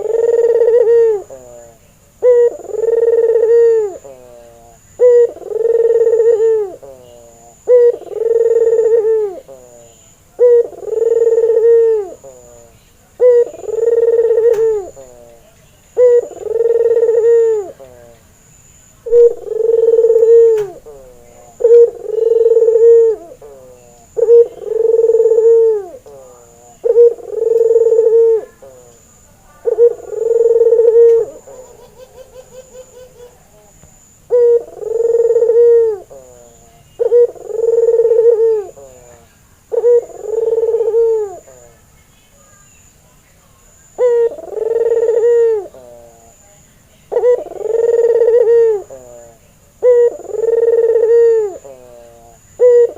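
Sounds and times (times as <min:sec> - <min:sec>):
dove cooing: 0:00.0 - 0:41.9, 0:43.8 - 0:52.9.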